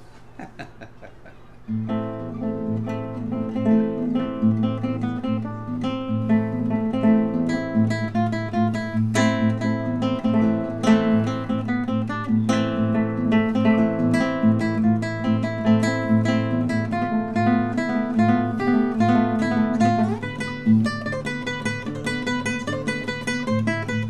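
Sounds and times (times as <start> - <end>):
fingerstyle classical guitar: 1.6 - 24.0.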